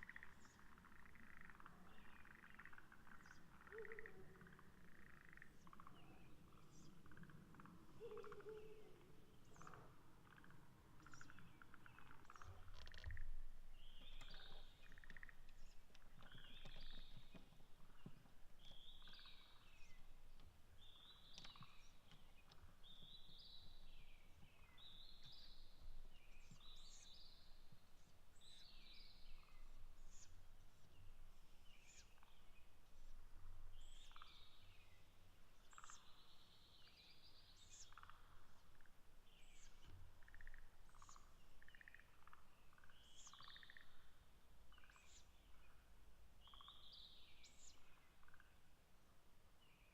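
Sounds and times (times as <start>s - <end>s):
faint chirps and clicks: 0.0s - 34.8s, 35.6s - 36.5s, 37.2s - 44.1s.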